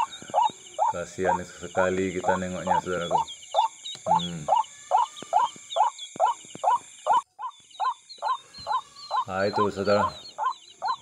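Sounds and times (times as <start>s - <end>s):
bird chirping call: 0.0s - 11.0s
night insects droning: 0.0s - 11.0s.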